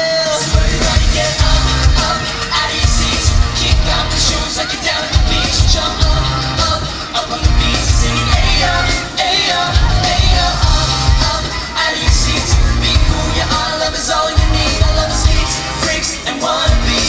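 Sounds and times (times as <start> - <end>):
male voices singing: 0.0 - 17.0
pop backing track with bass beat: 0.0 - 17.0.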